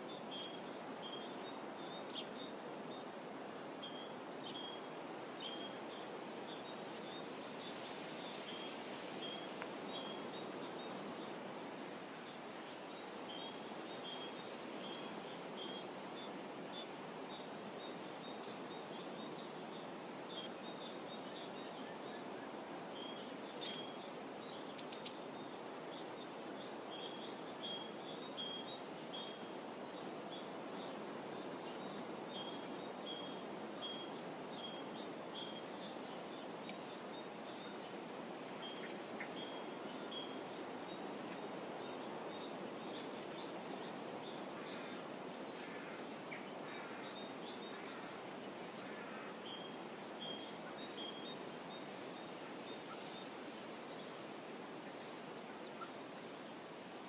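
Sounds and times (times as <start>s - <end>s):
small birds chirping: 0.0s - 56.6s.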